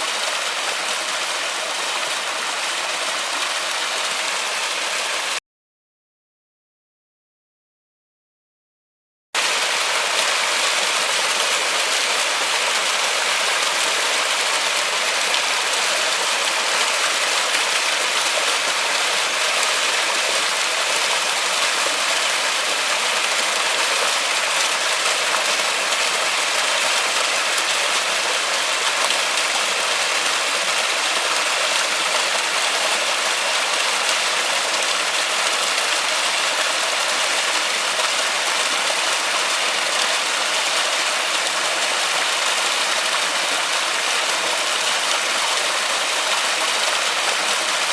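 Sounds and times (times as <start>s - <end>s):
steady rain falling: 9.4s - 47.9s.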